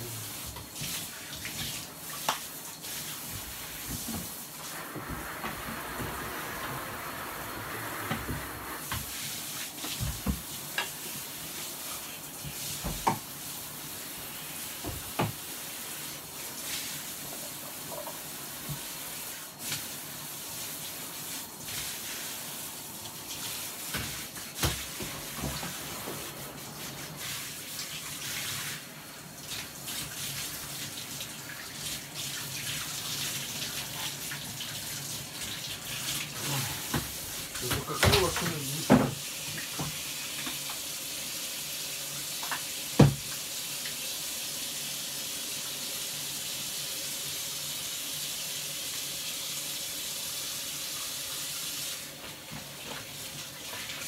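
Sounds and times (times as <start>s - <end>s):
tap water running: 0.0s - 54.0s.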